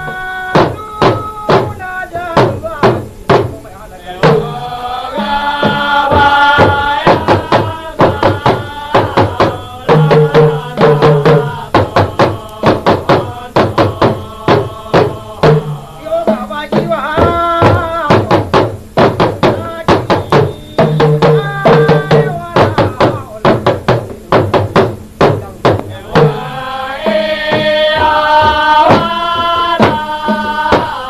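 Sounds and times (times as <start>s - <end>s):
person singing: 0.0s - 2.9s, 4.0s - 18.5s, 19.2s - 23.8s, 25.8s - 31.0s
drum beats: 0.0s - 31.0s.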